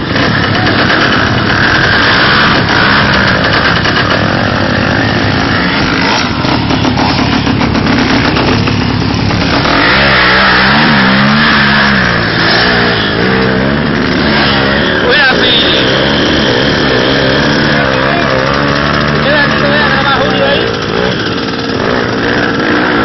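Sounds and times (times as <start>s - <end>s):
quad bike engine revving: 0.0s - 23.0s.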